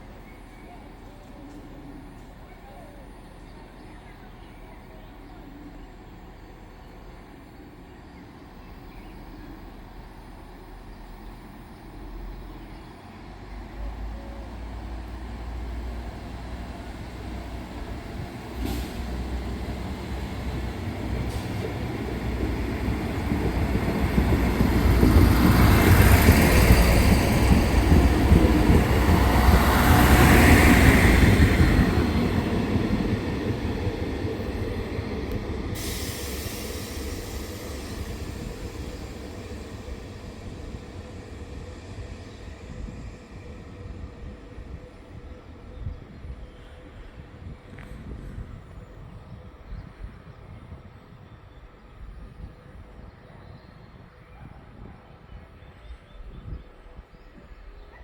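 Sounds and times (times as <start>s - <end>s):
train wheels rumbling on rails: 8.4s - 55.5s.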